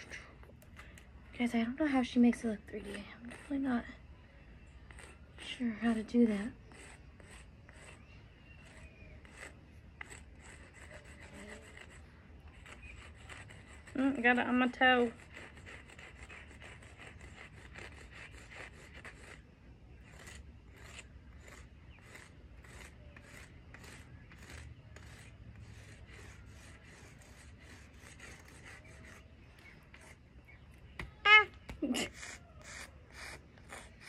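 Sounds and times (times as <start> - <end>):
chalk scraping on concrete: 1.6 - 4.0, 4.6 - 34.0.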